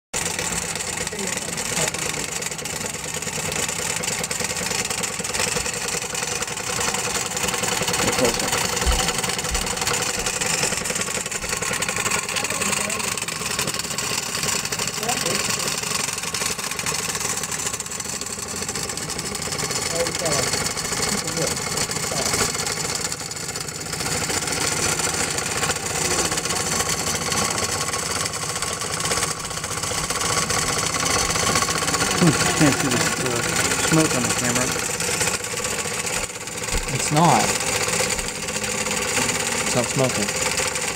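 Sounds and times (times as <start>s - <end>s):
toy steam engine running: 0.2s - 40.9s.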